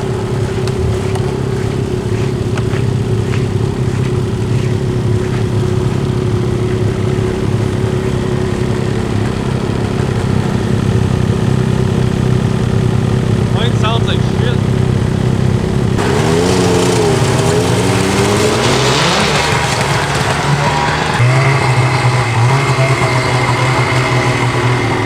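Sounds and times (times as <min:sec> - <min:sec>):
snowmobile engine idling: 0:00.0 - 0:25.0.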